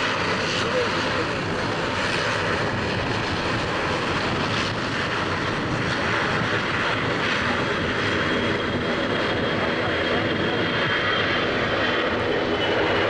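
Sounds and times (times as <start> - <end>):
jet engines at take-off power: 0.0 - 13.0.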